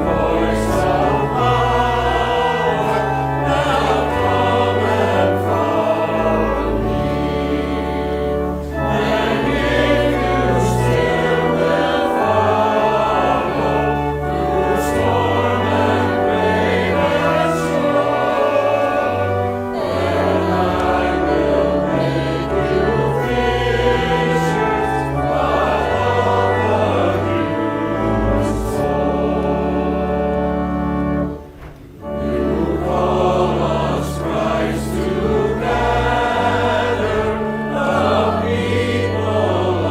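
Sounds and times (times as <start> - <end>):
congregation singing a hymn: 0.0 - 39.9
sustained low instrumental notes: 0.0 - 39.9.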